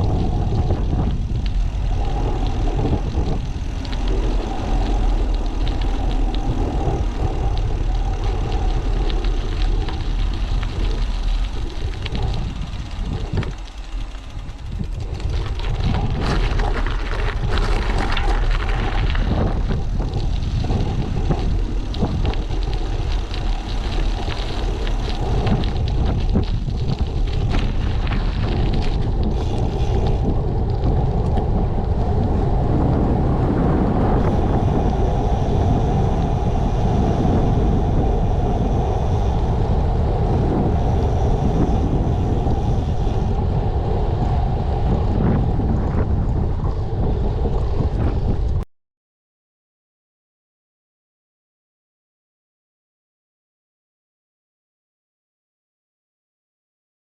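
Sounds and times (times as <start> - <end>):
bike road noise: 0.0 - 48.6
wind buffeting microphone: 0.0 - 48.6.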